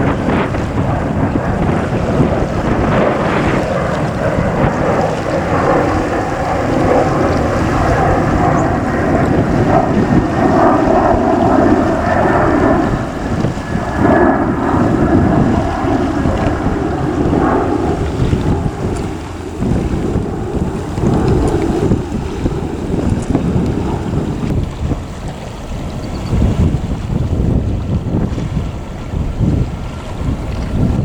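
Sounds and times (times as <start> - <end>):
jet engines roaring: 0.0 - 31.0
wind buffeting microphone: 0.0 - 31.0.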